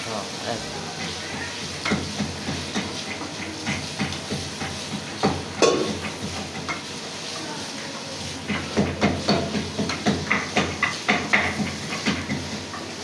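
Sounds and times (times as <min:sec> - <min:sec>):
frying sizzle: 0:00.0 - 0:13.0
wooden spatula scraping wok: 0:00.2 - 0:13.0.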